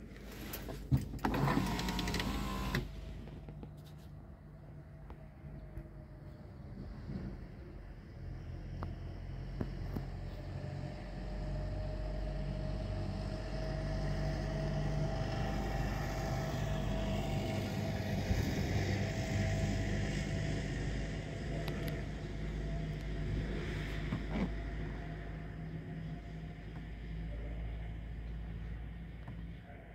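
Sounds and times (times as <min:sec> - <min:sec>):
vehicle engine humming: 0:00.0 - 0:04.0, 0:09.4 - 0:29.9.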